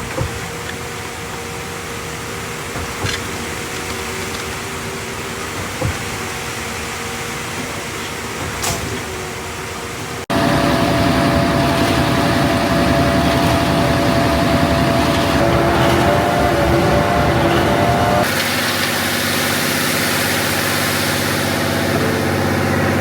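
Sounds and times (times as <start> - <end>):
concrete mixer truck humming: 0.0 - 23.0
deep engine drone: 0.0 - 23.0.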